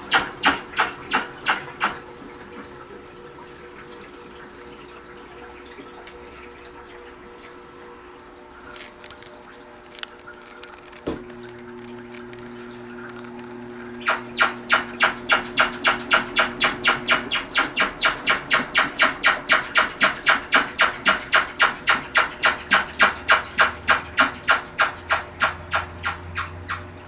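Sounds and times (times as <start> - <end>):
washing machine rubbing and swishing: 0.0 - 7.1, 11.2 - 27.0.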